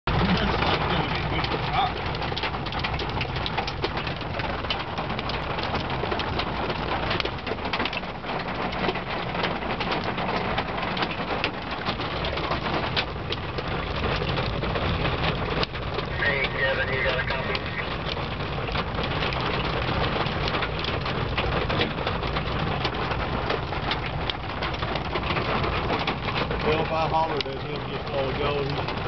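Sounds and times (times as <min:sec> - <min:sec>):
hail and rain on vehicle roof: 0:00.1 - 0:29.0
vehicle driving rumble: 0:00.1 - 0:29.0.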